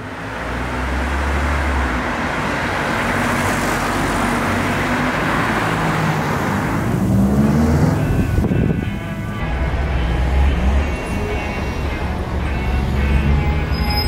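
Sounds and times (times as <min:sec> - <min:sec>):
street traffic passing: 0:00.0 - 0:14.0.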